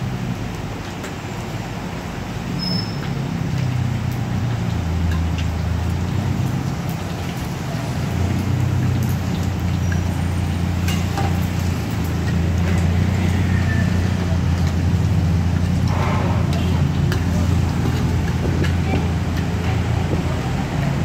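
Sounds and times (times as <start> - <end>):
omelette sizzling in hot oil: 0.0 - 19.9.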